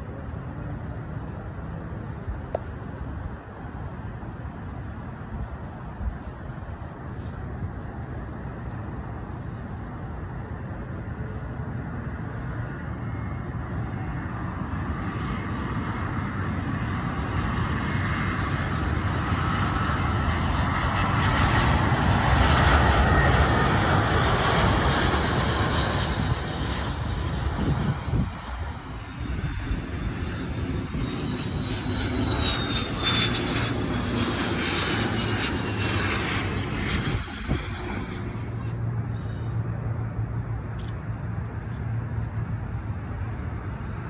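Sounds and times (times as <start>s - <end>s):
jet airliner passing low: 0.0s - 44.0s.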